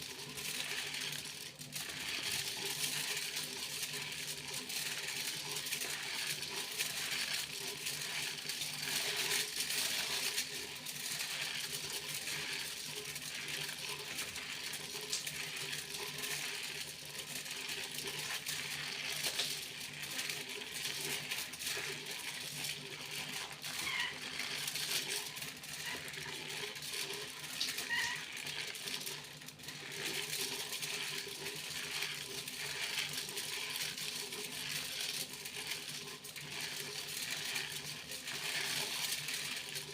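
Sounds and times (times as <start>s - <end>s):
aluminium foil crinkling: 0.1s - 39.9s.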